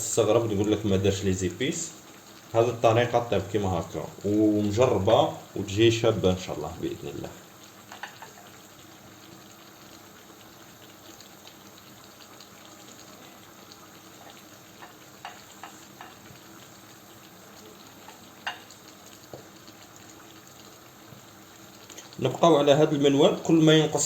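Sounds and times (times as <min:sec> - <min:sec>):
food simmering and sizzling in pan: 0:00.0 - 0:24.0.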